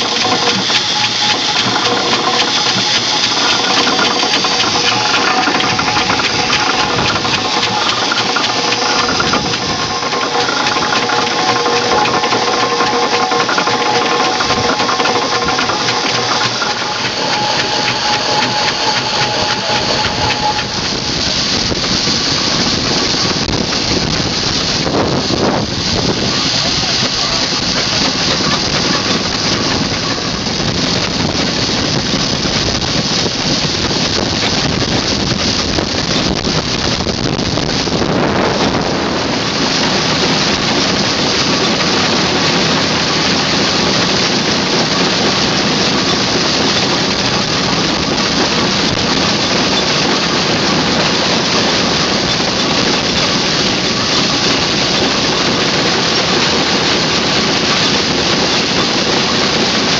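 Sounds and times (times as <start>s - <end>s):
steam hissing from engine: 0.0s - 59.9s.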